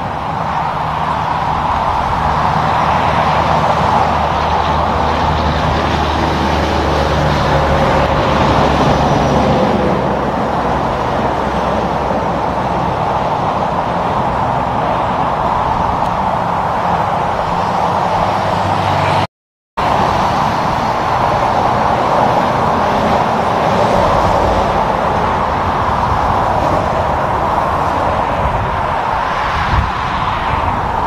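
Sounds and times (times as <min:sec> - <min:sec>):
truck diesel engines humming: 0:00.0 - 0:29.8
tyre noise of passing traffic: 0:00.0 - 0:31.0.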